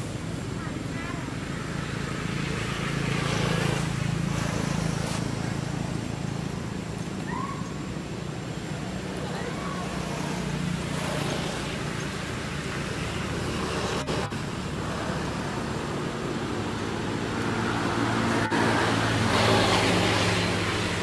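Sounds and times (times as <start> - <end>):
vehicle noise: 0.0 - 21.0.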